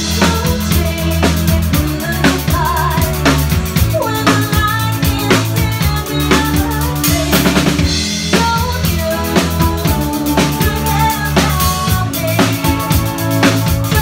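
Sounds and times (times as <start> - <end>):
drum kit kick and snare beat: 0.0 - 14.0
live band playing: 0.0 - 14.0.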